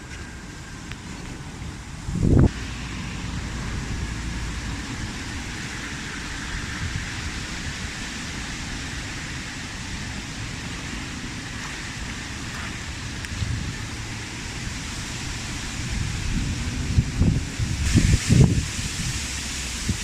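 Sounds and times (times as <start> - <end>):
wind rumbling on microphone: 0.0 - 20.0
wind gust buffeting microphone: 0.6 - 20.0.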